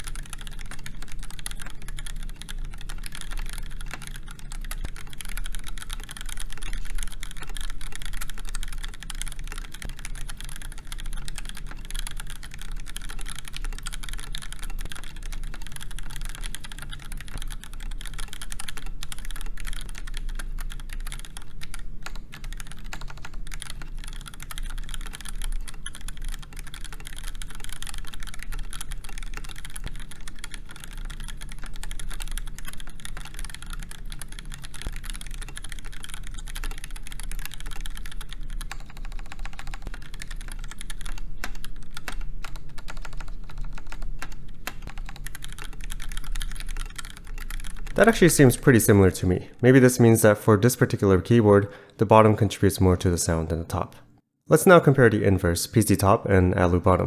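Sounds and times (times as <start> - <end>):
fast typing on mechanical keyboard: 0.0 - 51.6.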